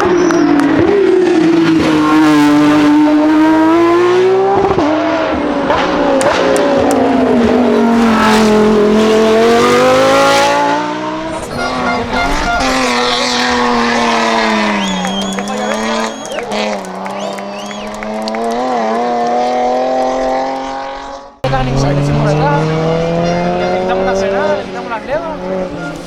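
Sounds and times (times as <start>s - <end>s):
race car engine at high revs: 0.0s - 26.0s.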